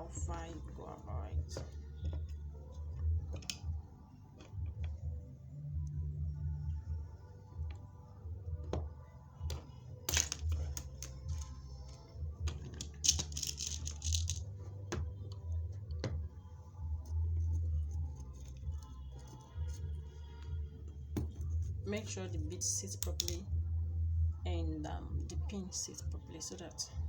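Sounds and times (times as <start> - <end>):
quiet background music: 0.0 - 27.0.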